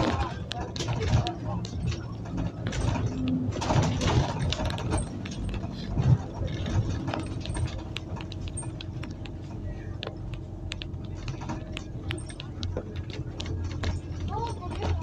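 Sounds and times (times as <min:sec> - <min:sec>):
bus engine running: 0:00.0 - 0:15.0
light clicks and rattles: 0:00.0 - 0:15.0.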